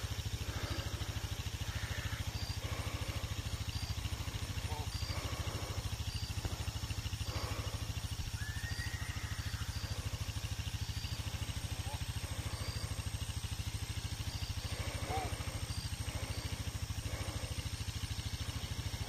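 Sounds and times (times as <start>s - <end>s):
engine idling: 0.0s - 19.0s
faint bird chirps: 0.7s - 19.0s.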